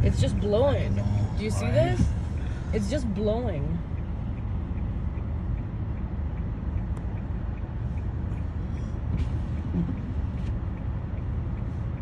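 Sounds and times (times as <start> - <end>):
car driving rumble inside cabin: 0.0 - 12.0
faint regular ticking: 0.0 - 12.0.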